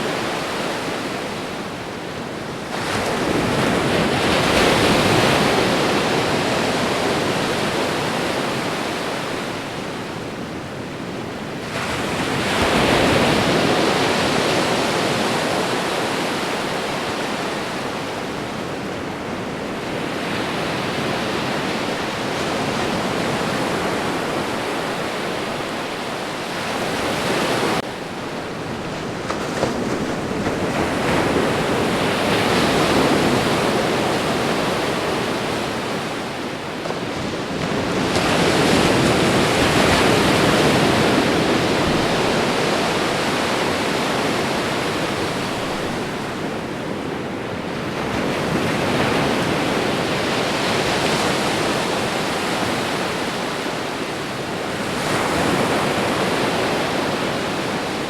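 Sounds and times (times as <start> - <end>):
ocean surf breaking on shore: 0.0 - 58.0.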